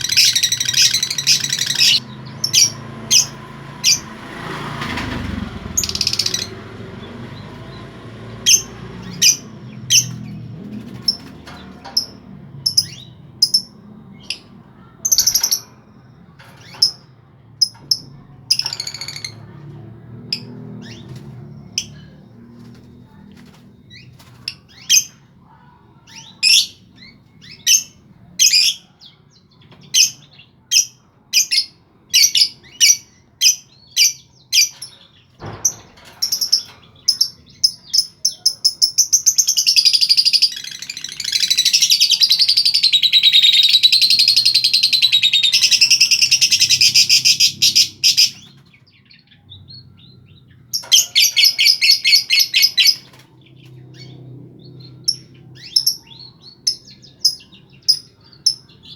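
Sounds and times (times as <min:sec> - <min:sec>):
lovebird chirping and trilling: 0:00.0 - 0:04.1, 0:05.8 - 0:19.6, 0:26.0 - 0:29.1, 0:29.8 - 0:58.9.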